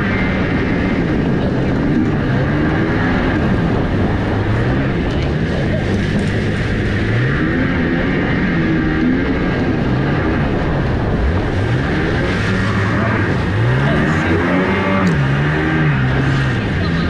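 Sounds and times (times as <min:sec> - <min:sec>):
jet boat engine revving: 0:00.0 - 0:17.0.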